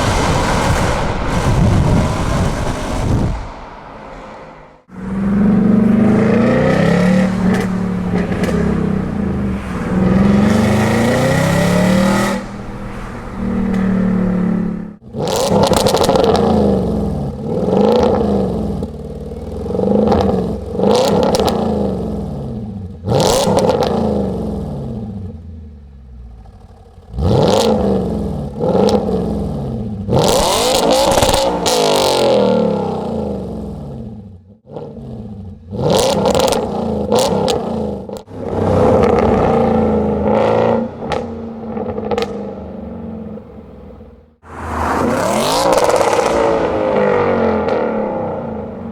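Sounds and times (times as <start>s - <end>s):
car engine revving: 0.0s - 48.9s
engine throttle blips: 4.6s - 48.9s.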